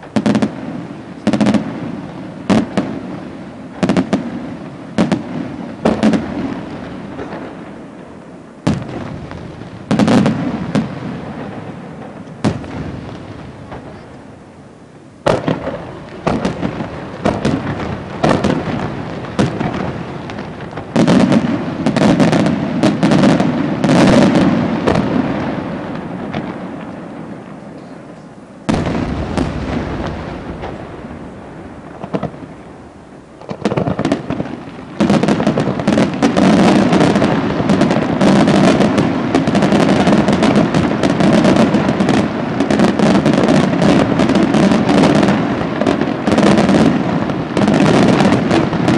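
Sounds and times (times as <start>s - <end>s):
loud firework blast: 0.0s - 14.6s, 15.2s - 28.0s, 28.6s - 48.9s
fireworks bursting and crackling: 0.0s - 48.9s.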